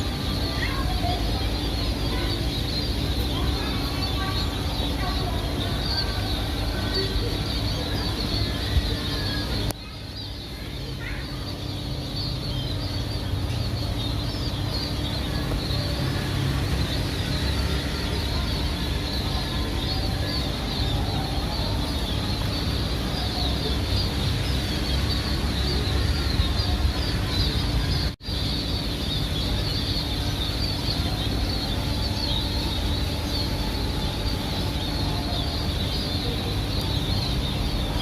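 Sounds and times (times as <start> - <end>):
flock of small birds chirping: 0.0 - 38.0.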